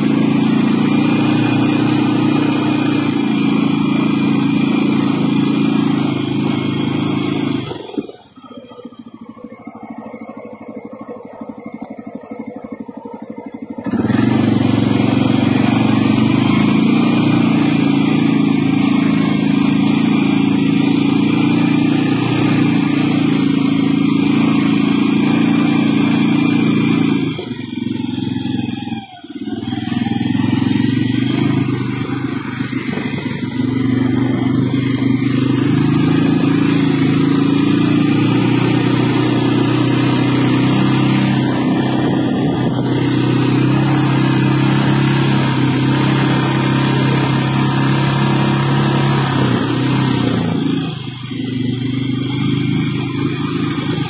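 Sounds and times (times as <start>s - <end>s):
atv engine droning: 0.0s - 54.0s.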